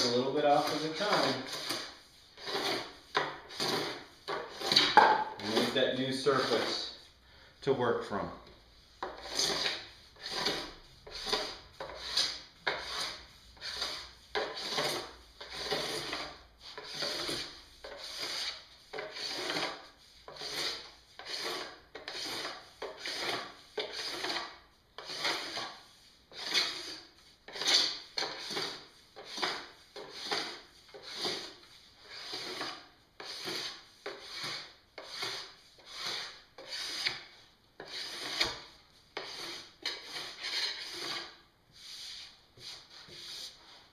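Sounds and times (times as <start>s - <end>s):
metal scraper on plastic: 0.0s - 7.0s, 9.0s - 41.4s.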